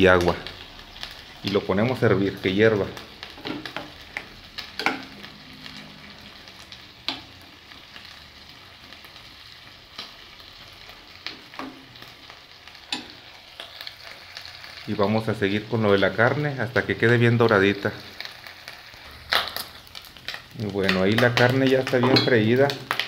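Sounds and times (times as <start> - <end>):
meat sizzling: 0.0 - 23.0.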